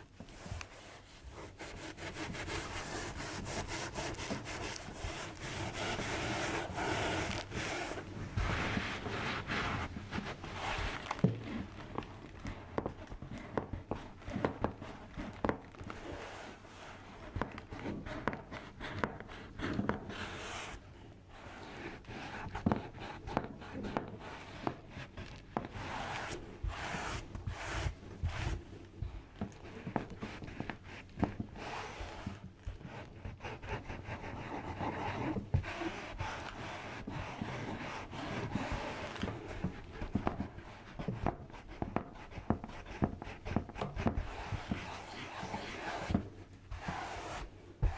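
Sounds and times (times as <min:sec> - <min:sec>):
rubbing and brushing: 0:00.0 - 0:47.9.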